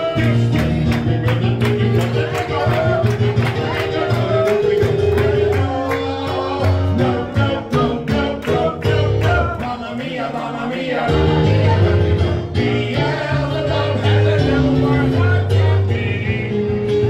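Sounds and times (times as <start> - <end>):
song with bass guitar and singing: 0.0 - 17.0.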